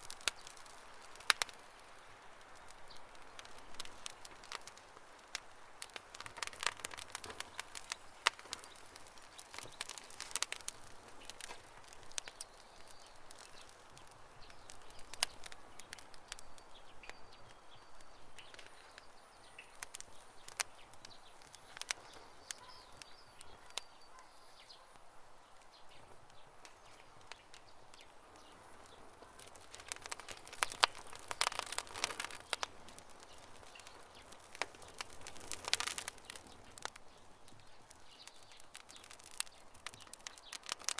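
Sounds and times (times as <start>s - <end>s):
campfire crackling and popping: 0.0s - 40.9s
soft fire hiss: 0.0s - 40.9s.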